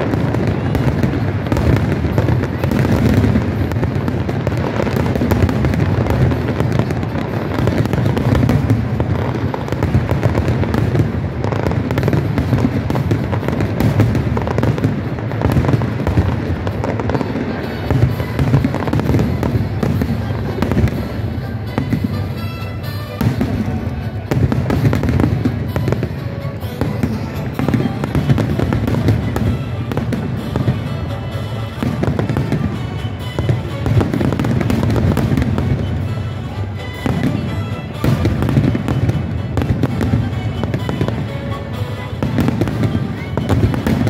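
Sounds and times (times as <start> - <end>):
fireworks booming and crackling: 0.0 - 44.0.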